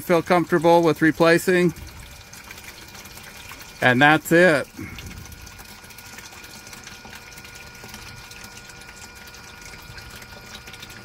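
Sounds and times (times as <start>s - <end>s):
electric pump humming: 0.0s - 11.0s
liquid running through hoses: 0.0s - 11.0s.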